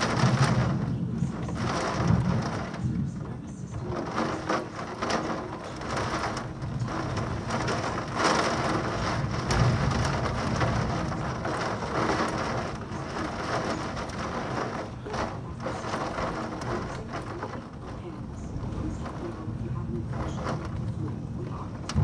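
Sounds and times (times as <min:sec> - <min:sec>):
heavy rain pouring: 0:00.0 - 0:22.0
thunder rumbling: 0:00.0 - 0:22.0.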